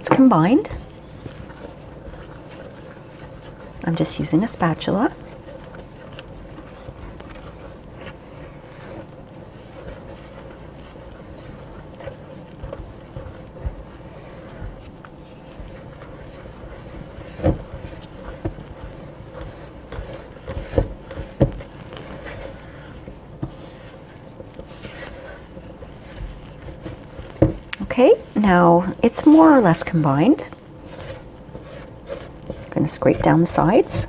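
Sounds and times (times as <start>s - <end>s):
faint steady hum: 0.0s - 34.0s
spatula scraping in a bowl: 0.0s - 34.0s.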